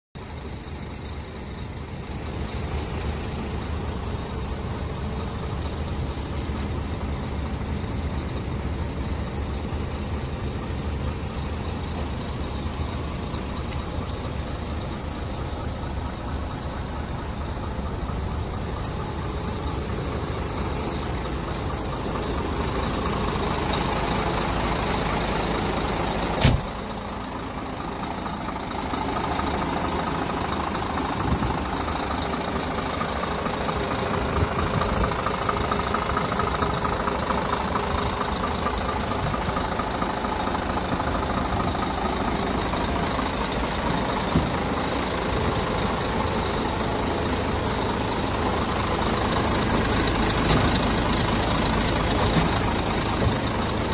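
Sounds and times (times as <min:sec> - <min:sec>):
diesel engine idling: 0:00.2 - 0:53.9.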